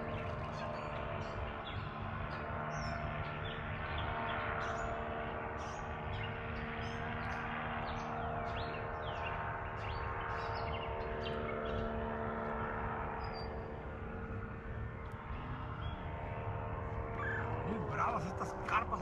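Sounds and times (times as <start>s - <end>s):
small birds chirping: 0.0s - 19.0s
steady mechanical hum: 0.0s - 19.0s.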